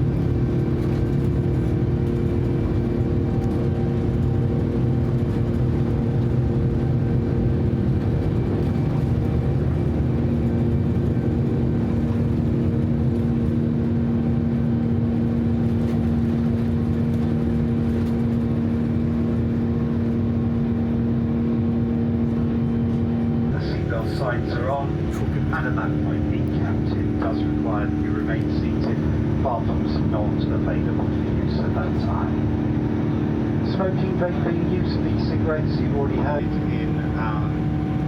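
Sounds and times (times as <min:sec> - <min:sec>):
jet engine rumble in cabin: 0:00.0 - 0:38.0.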